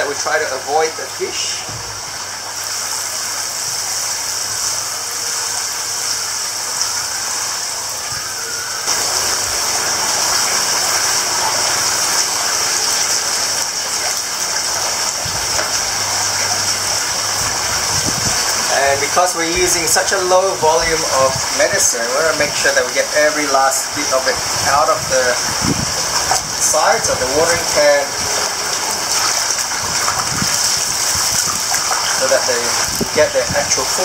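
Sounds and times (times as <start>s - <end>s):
water sprinkling onto pond: 0.0s - 34.0s.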